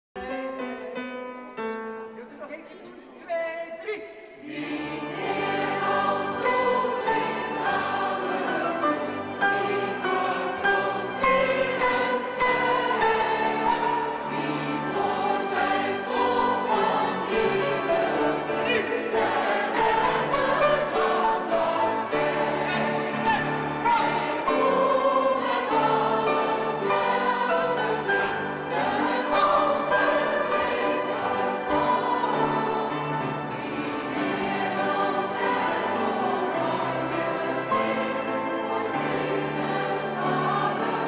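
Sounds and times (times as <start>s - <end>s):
grand piano accompaniment: 0.2s - 3.3s, 4.4s - 41.0s
mixed choir singing: 4.3s - 41.0s.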